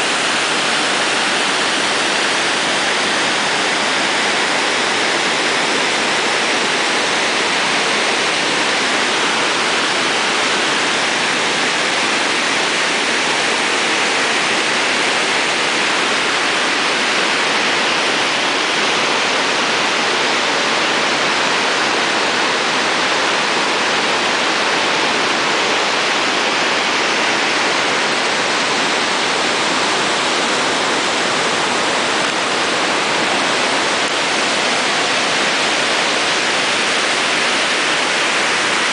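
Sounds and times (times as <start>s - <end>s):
dam water rushing roar: 0.0s - 38.9s.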